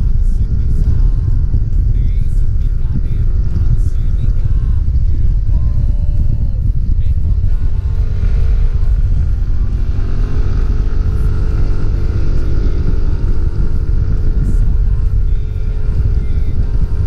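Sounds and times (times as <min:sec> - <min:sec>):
scooter engine running: 0:00.0 - 0:17.0
wind buffeting microphone: 0:00.0 - 0:17.0.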